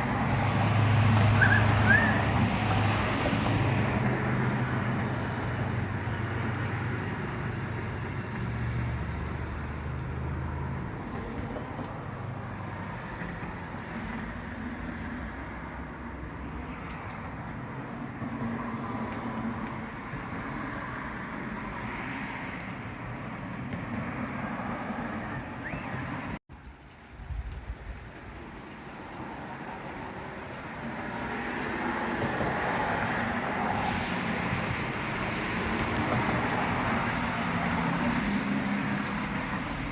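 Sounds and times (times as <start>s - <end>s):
road traffic: 0.0s - 39.9s.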